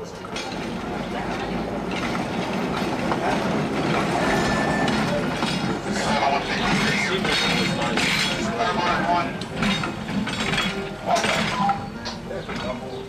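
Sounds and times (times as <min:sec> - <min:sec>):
trolley car rolling on rails: 0:00.0 - 0:13.0.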